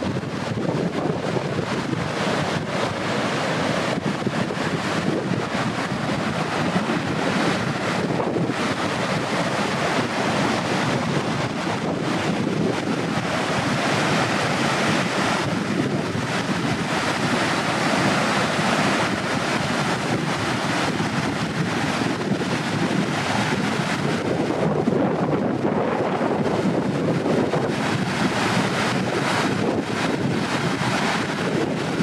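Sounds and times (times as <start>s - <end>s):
swollen river rushing: 0.0s - 32.0s
wind buffeting microphone: 0.0s - 32.0s.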